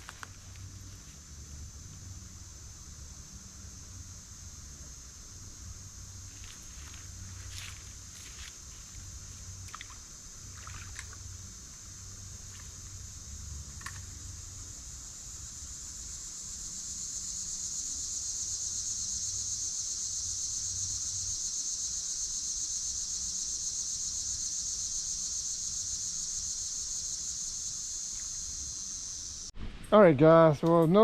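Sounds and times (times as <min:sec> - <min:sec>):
cicadas droning: 0:00.0 - 0:29.6.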